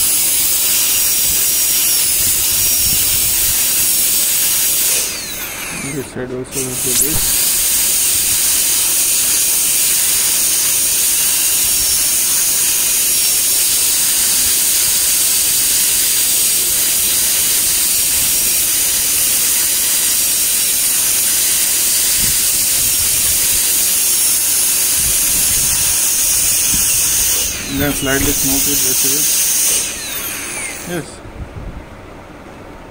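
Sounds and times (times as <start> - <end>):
dental drill high-pitched hiss: 0.0 - 31.2.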